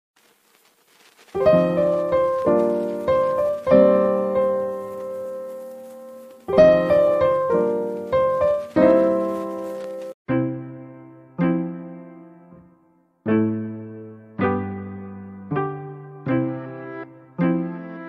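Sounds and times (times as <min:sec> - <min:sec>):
slow piano chords: 0:01.4 - 0:18.0.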